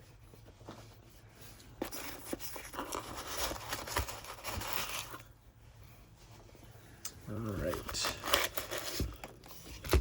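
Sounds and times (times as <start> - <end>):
rustling and scraping of packaging: 0.0 - 10.0.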